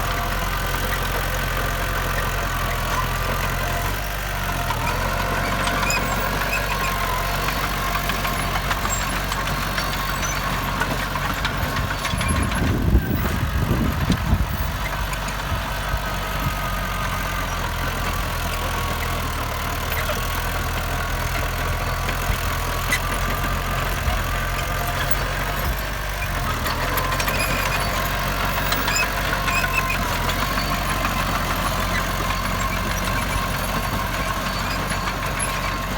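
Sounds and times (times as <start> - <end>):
heavy diesel engine running: 0.0 - 35.9.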